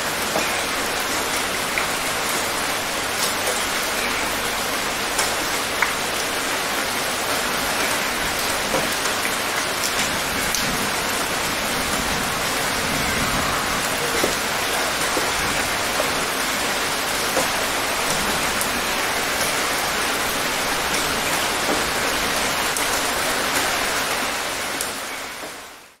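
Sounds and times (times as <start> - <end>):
light rain hiss: 0.0 - 26.0
raindrops ticking: 0.2 - 23.4.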